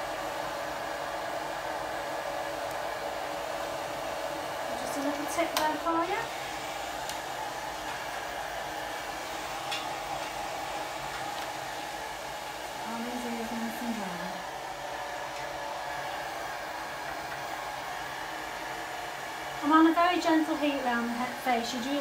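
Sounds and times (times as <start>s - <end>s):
hairdryer blowing: 0.0s - 22.0s.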